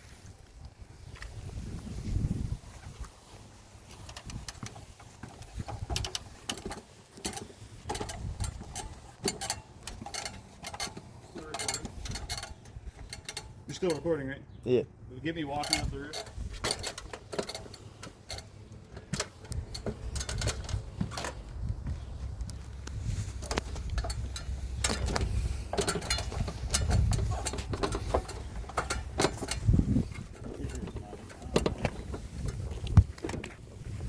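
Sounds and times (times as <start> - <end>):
footsteps on shingle roof: 0.0 - 13.7, 15.8 - 34.0.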